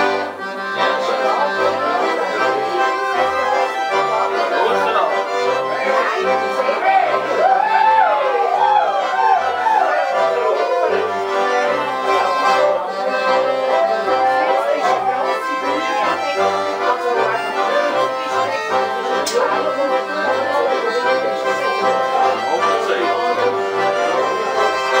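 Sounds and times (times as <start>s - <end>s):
accordion bass notes: 0.0s - 25.0s
accordion melody: 0.0s - 25.0s.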